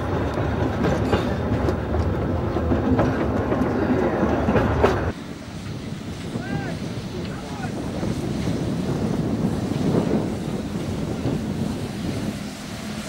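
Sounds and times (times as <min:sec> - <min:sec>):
wheels clicking over rails: 0:00.0 - 0:12.3
train wheels rumbling: 0:00.0 - 0:13.0
wind noise: 0:00.0 - 0:13.0.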